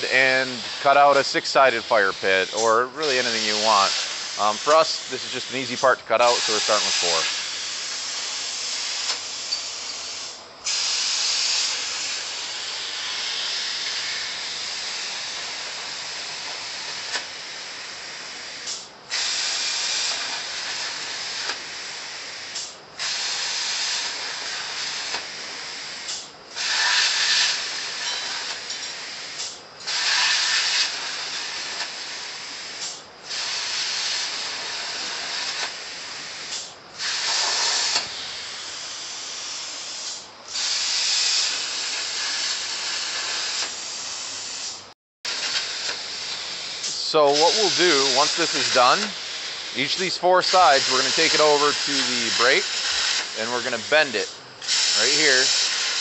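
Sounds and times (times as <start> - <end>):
plasma cutter torch hissing: 0.0 - 56.0.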